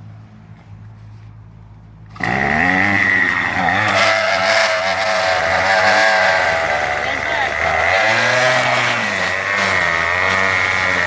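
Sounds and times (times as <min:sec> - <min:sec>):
string trimmer engine revving: 0:02.1 - 0:11.0.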